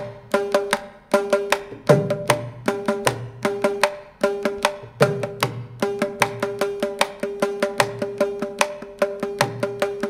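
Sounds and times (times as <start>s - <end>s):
tuned hand drum: 0.0s - 10.0s.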